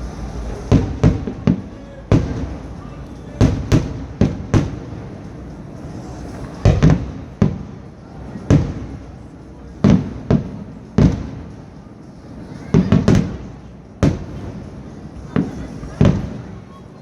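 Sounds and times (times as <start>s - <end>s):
fireworks exploding: 0.0s - 16.8s.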